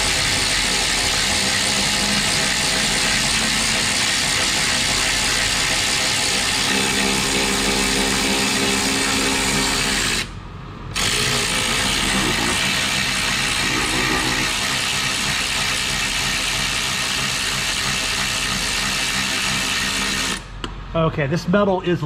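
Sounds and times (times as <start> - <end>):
electric ratchet running: 0.0 - 10.3, 10.9 - 20.5.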